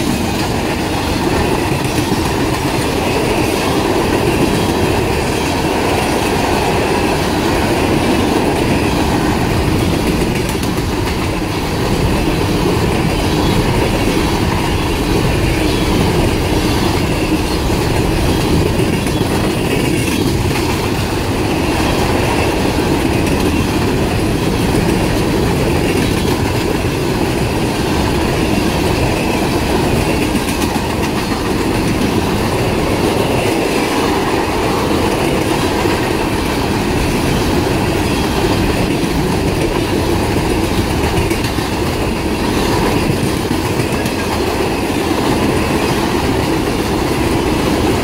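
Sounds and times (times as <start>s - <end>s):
steel wheels rumbling on rails: 0.0s - 48.0s.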